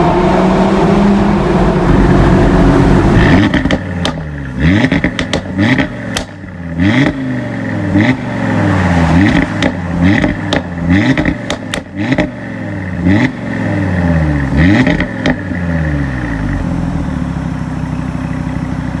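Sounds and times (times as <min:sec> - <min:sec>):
exhaust cracks: 0:00.0 - 0:17.0
car engine revving: 0:00.0 - 0:19.0.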